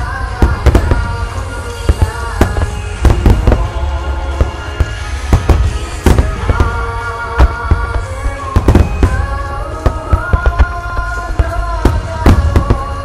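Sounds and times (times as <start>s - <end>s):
firework bangs: 0.0s - 13.0s
music over loudspeakers: 0.0s - 13.0s.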